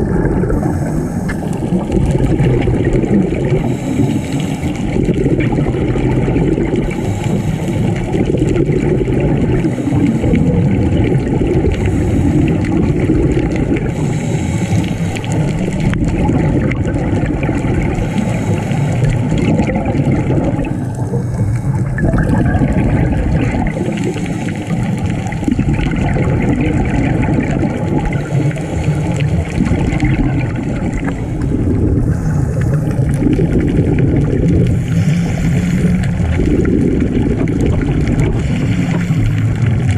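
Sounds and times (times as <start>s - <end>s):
bubbling and gurgling: 0.0s - 39.9s
underwater rumble: 0.0s - 39.9s.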